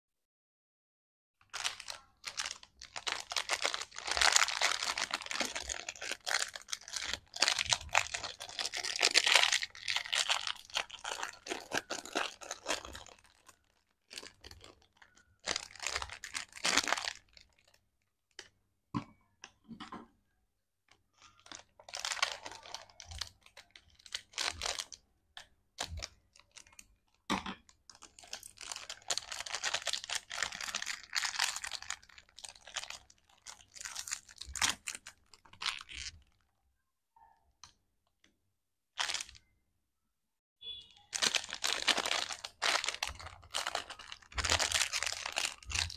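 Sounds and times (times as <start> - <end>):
plastic wrappers crinkling: 1.4 - 18.5, 20.9 - 36.5, 39.0 - 39.4, 40.9 - 45.9.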